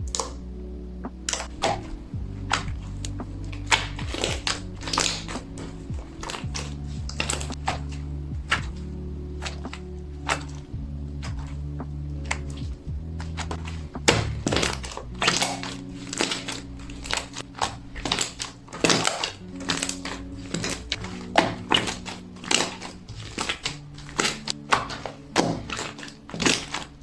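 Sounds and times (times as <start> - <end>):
soft background music: 0.0 - 27.0.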